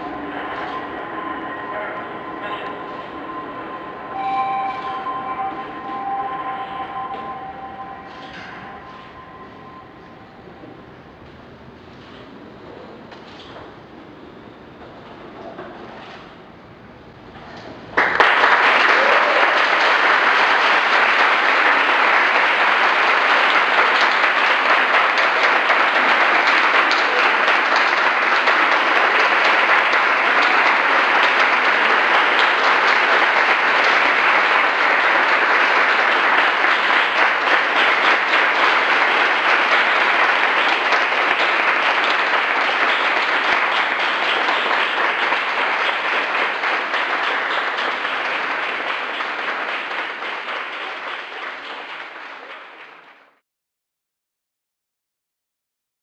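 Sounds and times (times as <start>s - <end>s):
audience applauding: 0.0s - 9.8s, 18.0s - 53.4s.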